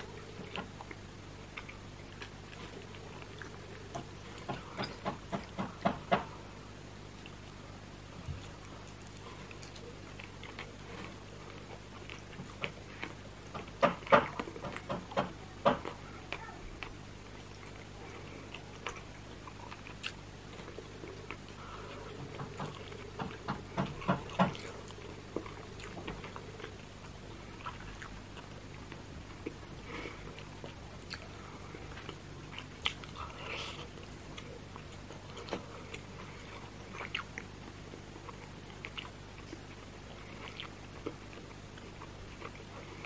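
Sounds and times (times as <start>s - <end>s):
person chewing wetly: 0.0s - 6.4s, 7.1s - 43.0s
faint steady hum: 0.0s - 43.0s.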